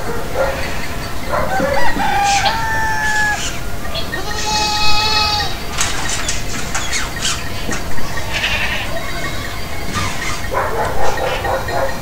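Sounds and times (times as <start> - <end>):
goat bleating: 0.5 - 6.0, 7.6 - 11.8.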